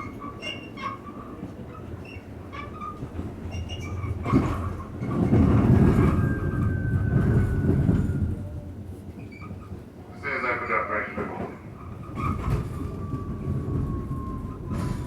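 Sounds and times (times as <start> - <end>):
subway train rumbling on rails: 0.0 - 15.0.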